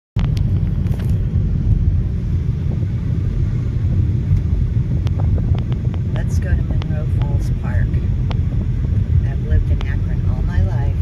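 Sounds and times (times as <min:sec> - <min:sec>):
car driving rumble from inside: 0:00.2 - 0:11.0.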